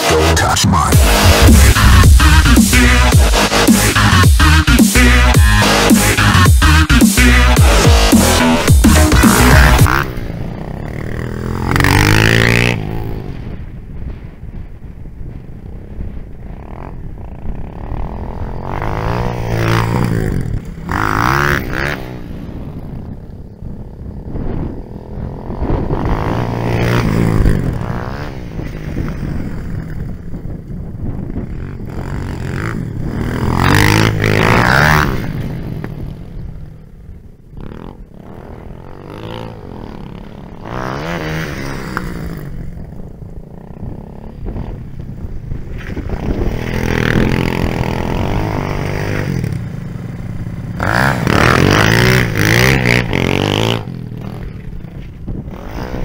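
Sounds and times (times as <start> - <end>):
dirt bike engines revving and passing: 0.0 - 56.0.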